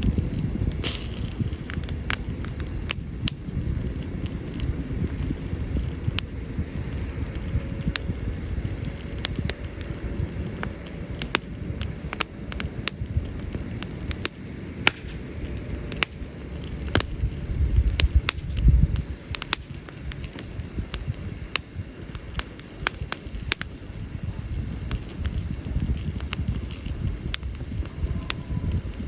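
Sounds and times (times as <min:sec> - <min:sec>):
campfire crackling and popping: 0:00.0 - 0:29.0
low fire rumble: 0:00.0 - 0:29.0.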